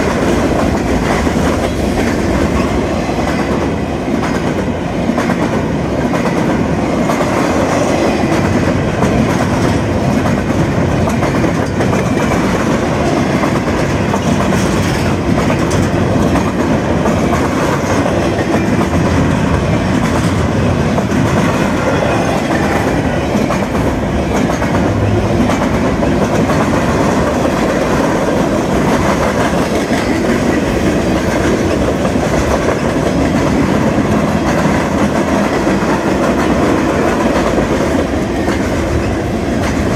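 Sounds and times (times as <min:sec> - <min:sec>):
railroad cars rolling past: 0:00.0 - 0:39.9.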